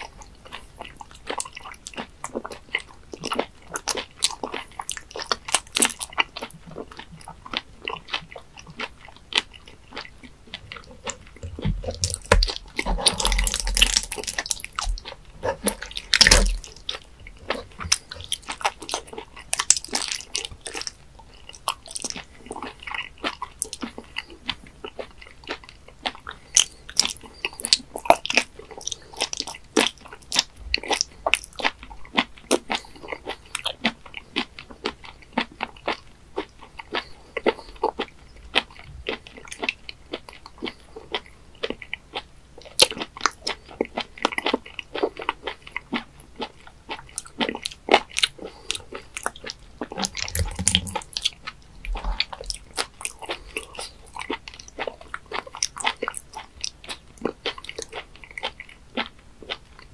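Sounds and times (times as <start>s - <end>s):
wet chewing: 0.0s - 59.9s.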